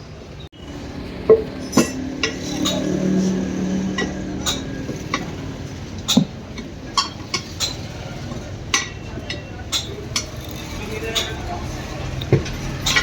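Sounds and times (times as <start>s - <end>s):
tools clinking on wheel rim: 1.3s - 13.0s.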